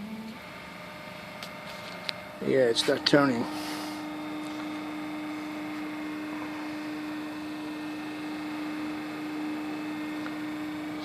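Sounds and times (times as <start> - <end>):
propeller motor humming: 0.0 - 11.0.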